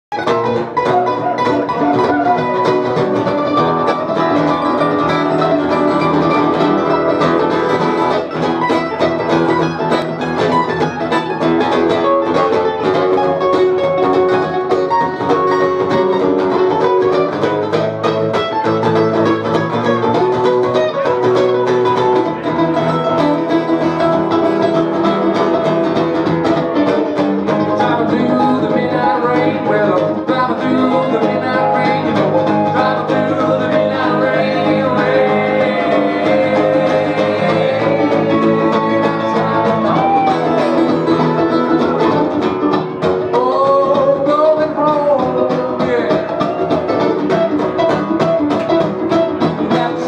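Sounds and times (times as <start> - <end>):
acoustic guitar strumming: 0.1 - 50.0
mandolin plucked notes: 0.1 - 50.0.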